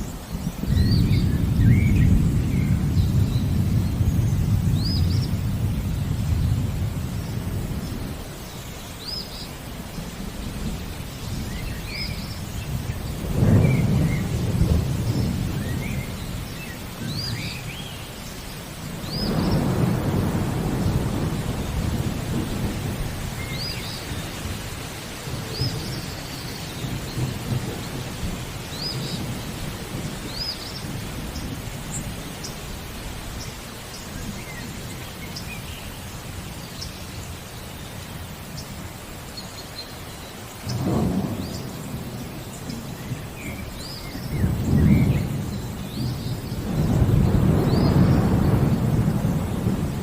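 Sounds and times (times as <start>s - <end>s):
rolling thunder: 0.0s - 32.2s, 40.6s - 50.0s
birds chirping: 0.0s - 50.0s
steady rain: 0.0s - 50.0s.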